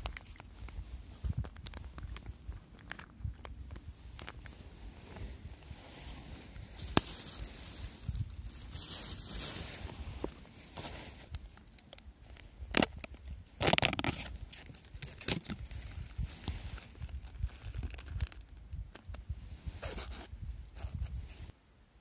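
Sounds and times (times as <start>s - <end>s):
rustling and crinkling: 0.0s - 21.6s.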